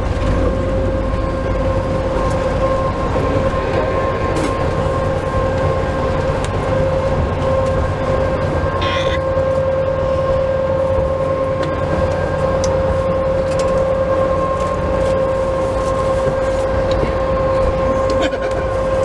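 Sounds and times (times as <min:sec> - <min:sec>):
steady whining hum: 0:00.0 - 0:19.0.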